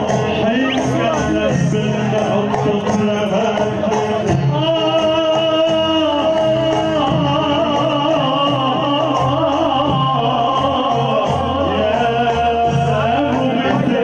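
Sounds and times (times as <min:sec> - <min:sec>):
instrumental accompaniment: 0:00.0 - 0:14.0
man singing long wavering notes: 0:00.0 - 0:14.0.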